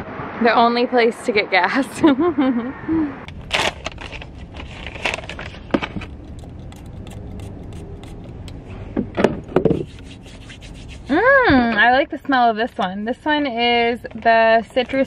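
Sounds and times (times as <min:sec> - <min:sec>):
low steady rumble: 0:02.1 - 0:15.0.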